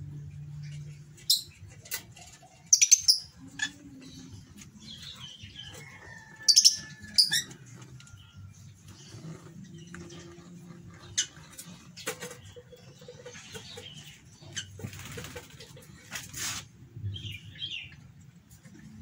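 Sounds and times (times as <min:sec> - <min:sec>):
birds fluttering in a cage: 0:00.0 - 0:19.0
bird chirp: 0:00.1 - 0:15.8.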